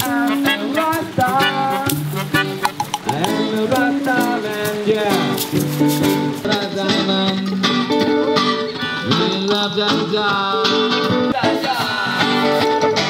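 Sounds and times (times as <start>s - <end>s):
plucked guitar with bending notes: 0.0s - 13.0s.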